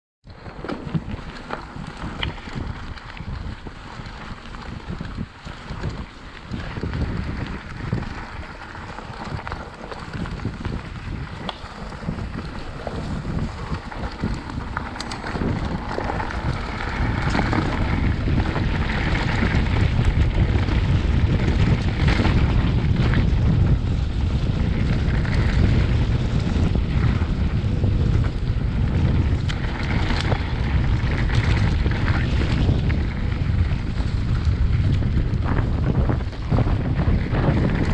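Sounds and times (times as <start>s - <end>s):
wind rumbling on microphone: 0.2s - 37.9s
bike knocks and rattles: 0.3s - 37.9s.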